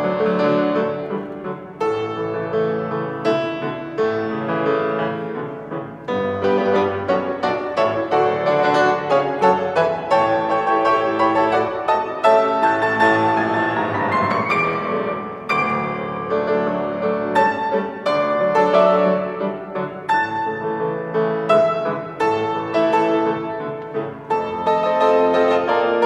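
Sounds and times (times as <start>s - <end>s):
grand piano solo: 0.0s - 26.0s.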